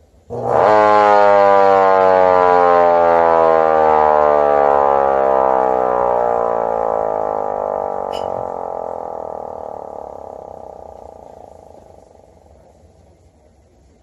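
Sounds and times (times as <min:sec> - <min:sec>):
electric motor siren wailing: 0:00.3 - 0:12.7.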